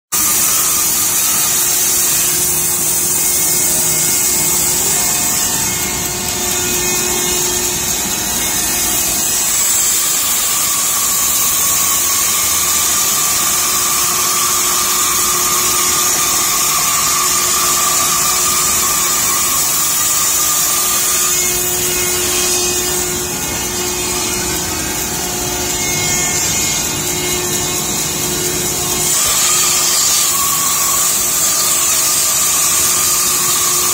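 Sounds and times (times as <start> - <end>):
saw cutting thick wood: 0.1 - 33.9.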